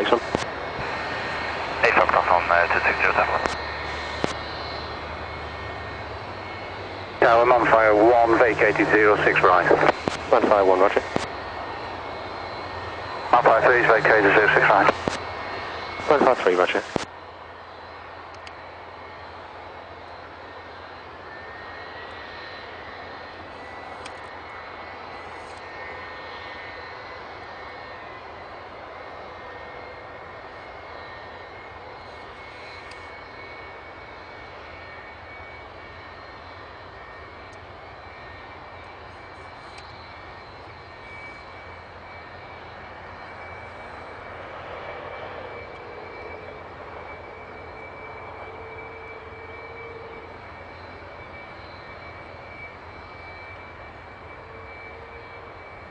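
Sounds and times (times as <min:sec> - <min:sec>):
jet engine idling with whine: 0:00.0 - 0:55.9.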